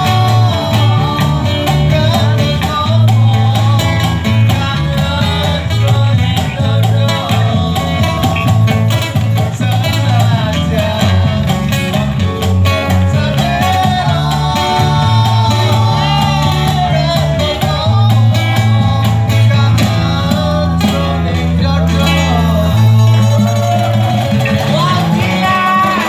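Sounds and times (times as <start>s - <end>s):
cajon beating rhythm: 0.0s - 26.0s
electric guitar: 0.0s - 26.0s
man singing into microphone: 0.0s - 26.0s
strummed acoustic guitar: 0.0s - 26.0s.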